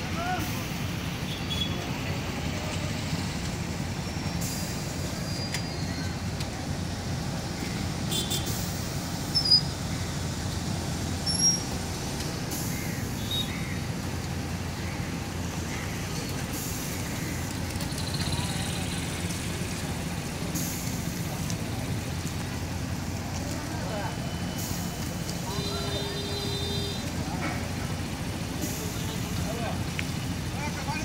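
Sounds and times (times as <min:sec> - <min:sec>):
vehicle engines idling: 0:00.0 - 0:31.0.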